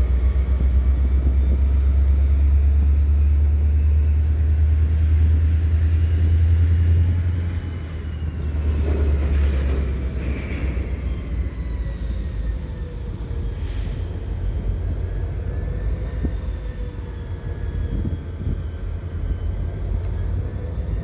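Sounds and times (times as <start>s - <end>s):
diesel locomotive rumbling: 0.0s - 21.0s.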